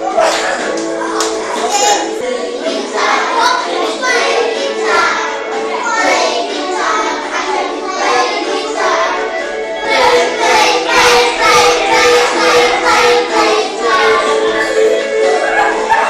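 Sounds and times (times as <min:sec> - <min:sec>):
children singing: 0:00.0 - 0:16.0
children's song playing: 0:00.0 - 0:16.0.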